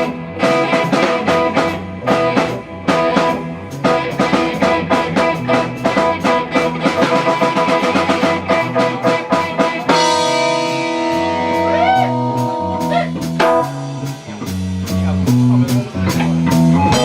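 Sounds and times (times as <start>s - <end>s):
drums: 0.0s - 17.0s
guitar: 0.0s - 17.0s.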